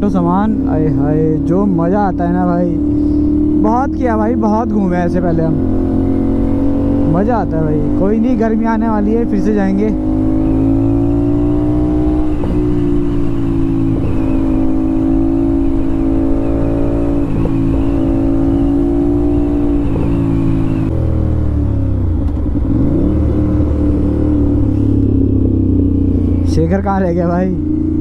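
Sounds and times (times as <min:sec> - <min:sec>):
motorcycle engine riding: 0:00.0 - 0:28.0.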